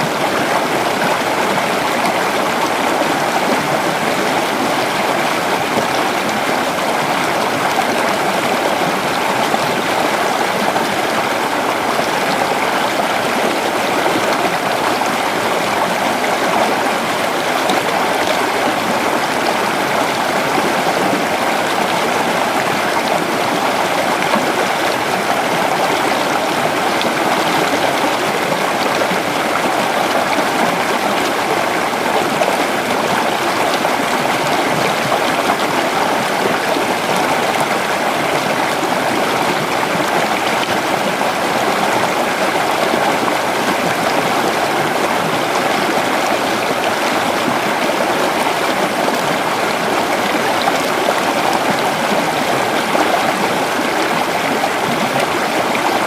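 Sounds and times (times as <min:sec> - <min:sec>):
creek water flowing over stones: 0:00.0 - 0:56.0.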